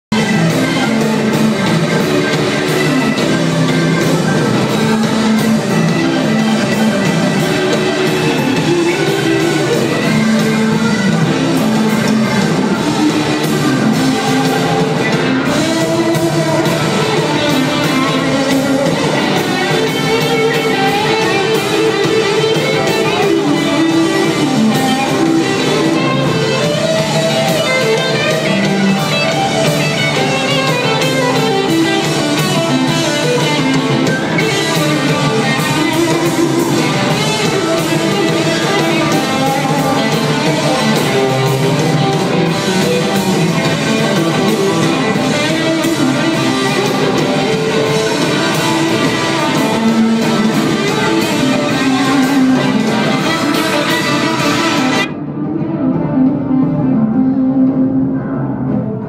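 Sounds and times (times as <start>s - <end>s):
keyboard playing: 0.0s - 59.0s
live rock band playing: 0.0s - 59.0s
electric guitar solo: 0.1s - 59.0s.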